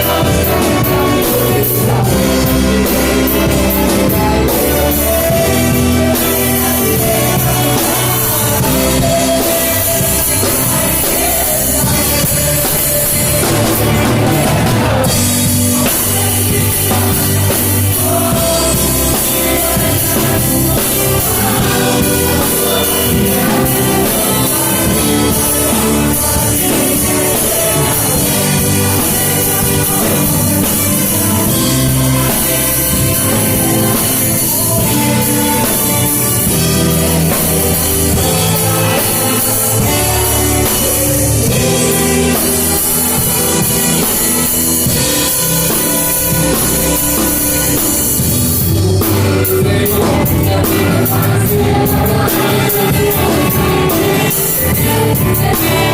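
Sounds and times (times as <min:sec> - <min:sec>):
church band and orchestra: 0:00.0 - 0:55.9
drum kit: 0:00.0 - 0:55.9
guitar: 0:00.0 - 0:55.9
people singing: 0:00.0 - 0:55.9.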